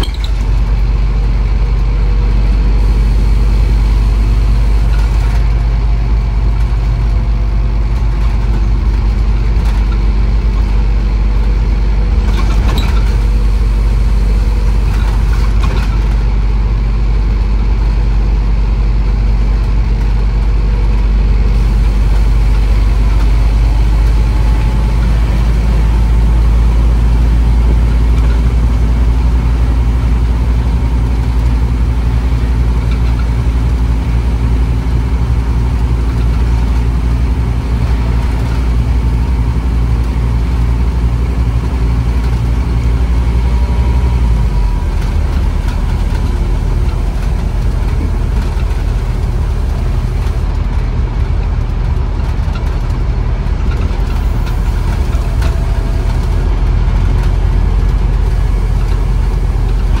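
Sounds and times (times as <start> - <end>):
bus diesel engine running: 0.0 - 60.0.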